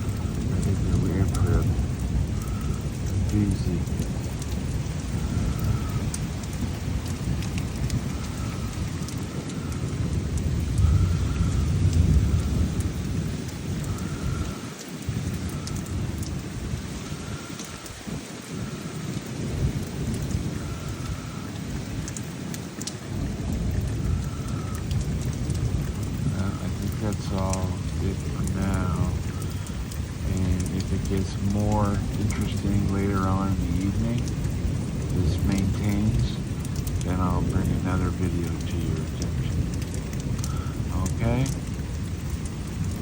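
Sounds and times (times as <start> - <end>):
rolling thunder: 0.0 - 43.0
steady rain: 0.0 - 43.0.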